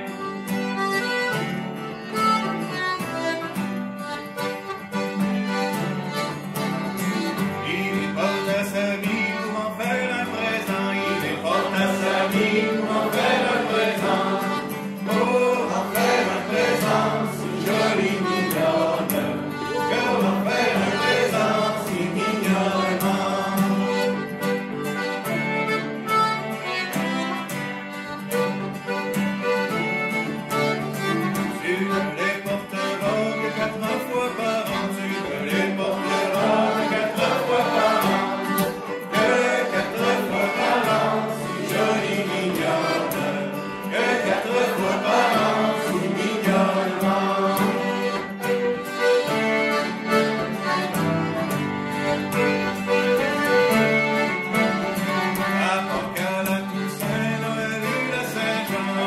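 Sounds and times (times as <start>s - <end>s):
acoustic guitar: 0.0s - 59.0s
fiddle: 0.0s - 59.0s
piano accordion: 0.0s - 59.0s.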